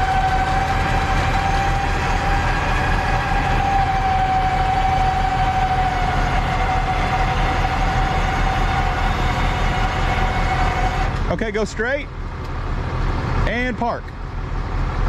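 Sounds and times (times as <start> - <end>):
high winch whine: 0.0 - 15.0
truck engine rumble: 0.0 - 15.0.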